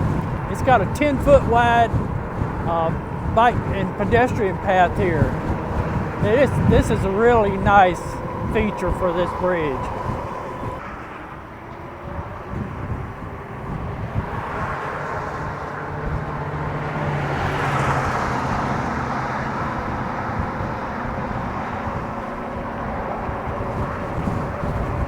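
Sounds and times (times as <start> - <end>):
wind and road rush: 0.0 - 25.0.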